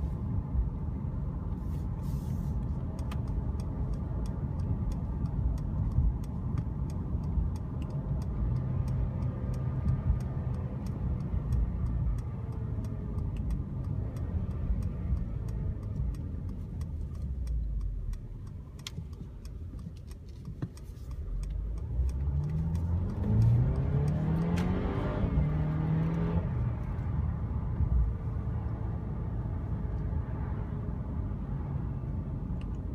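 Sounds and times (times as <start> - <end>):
car engine: 0.0 - 32.9
turn signal ticking: 0.0 - 32.9.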